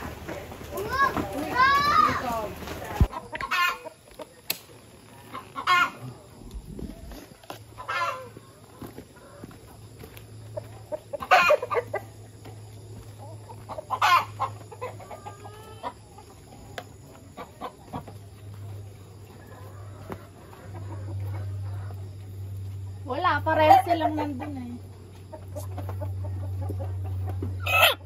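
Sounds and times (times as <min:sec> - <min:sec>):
chickens calling: 0:00.0 - 0:28.0
steady low hum: 0:04.1 - 0:28.0.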